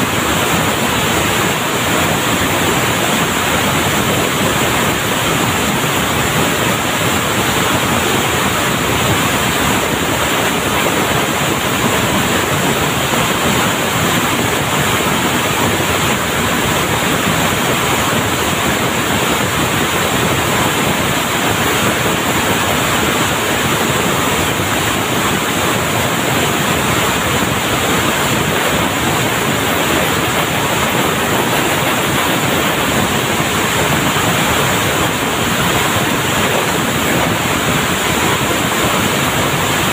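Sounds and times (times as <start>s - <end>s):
textile machinery hissing din: 0.0s - 39.9s.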